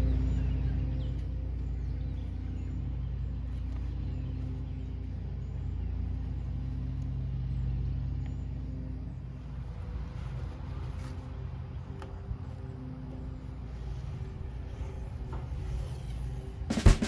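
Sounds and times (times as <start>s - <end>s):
motor droning: 0.0s - 16.9s.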